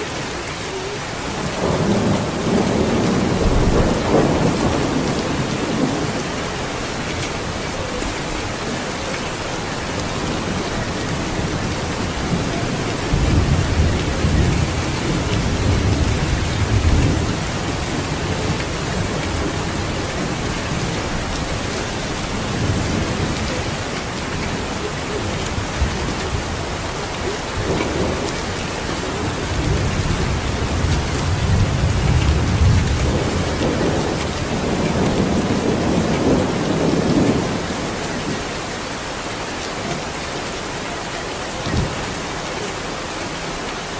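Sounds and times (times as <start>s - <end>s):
steady rain: 0.0s - 43.9s
thunder rumbling: 0.8s - 38.7s.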